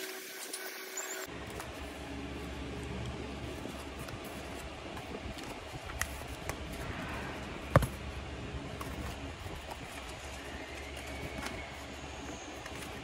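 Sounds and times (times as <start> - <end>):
steady low hum: 1.3 - 13.0.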